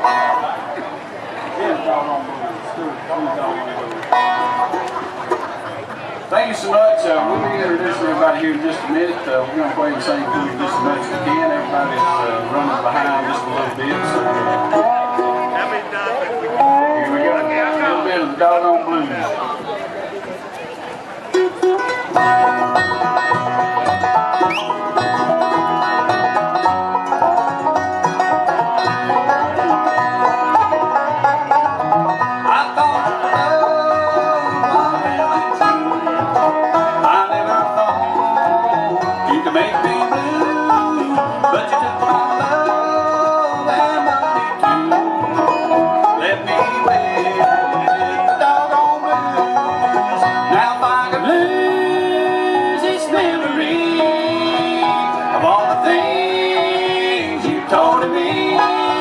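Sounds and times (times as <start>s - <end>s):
banjo: 0.0s - 59.0s
bluegrass band playing: 0.0s - 59.0s.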